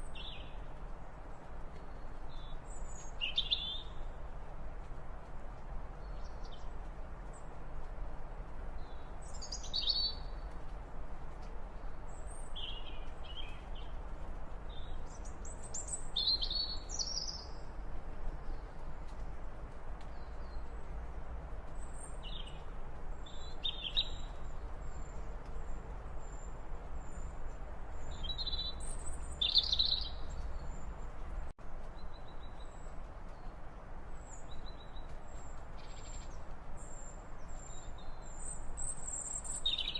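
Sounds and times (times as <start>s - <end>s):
small birds chirping: 0.0s - 4.3s, 5.9s - 7.6s, 8.7s - 10.7s, 11.4s - 39.9s.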